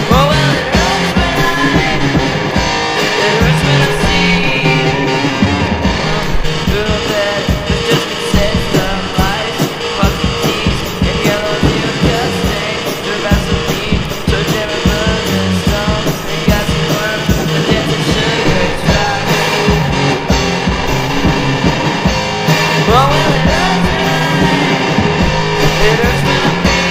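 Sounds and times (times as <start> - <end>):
loud rock music: 0.0 - 26.9.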